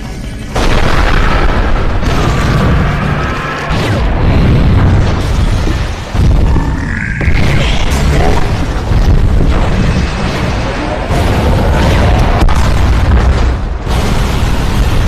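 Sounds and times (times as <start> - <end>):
explosions and booms: 0.0 - 15.0.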